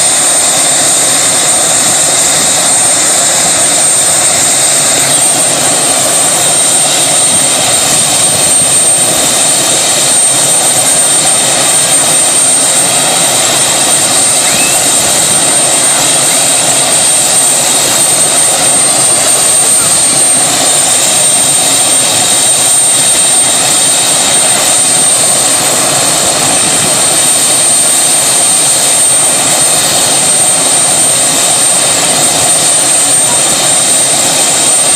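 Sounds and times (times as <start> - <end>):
helicopter engine and rotor: 0.0 - 34.9.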